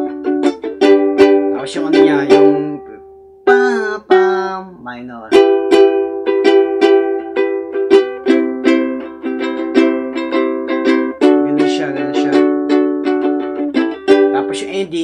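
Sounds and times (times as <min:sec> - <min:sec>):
ukulele strumming: 0:00.0 - 0:15.0.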